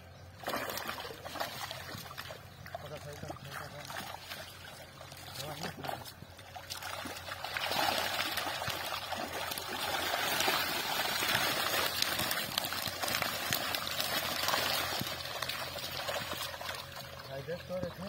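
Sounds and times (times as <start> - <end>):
fish splashing in water: 0.3 - 17.3.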